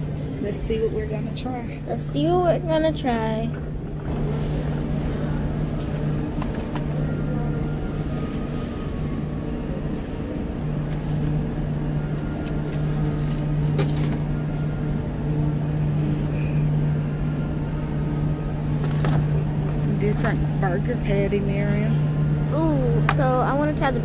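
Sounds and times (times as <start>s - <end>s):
refrigerated display cases humming: 0.0s - 24.0s.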